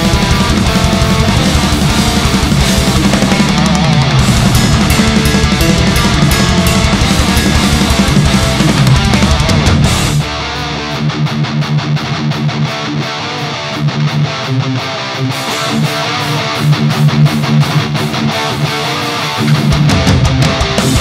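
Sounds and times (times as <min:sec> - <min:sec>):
distorted electric guitar riff: 0:00.0 - 0:21.0.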